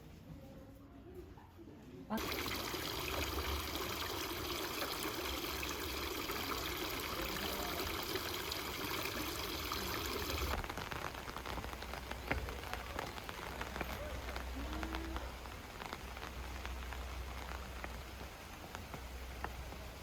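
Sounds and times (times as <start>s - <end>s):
hiss of running water: 2.1s - 20.0s
water patter with drips: 2.1s - 20.0s.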